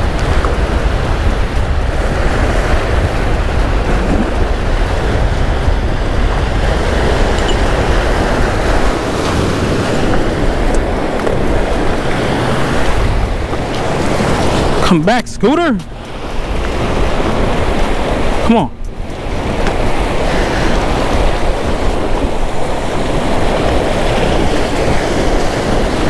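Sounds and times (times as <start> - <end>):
surf breaking against rocks: 0.0 - 26.0
wind rumbling on microphone: 0.0 - 26.0.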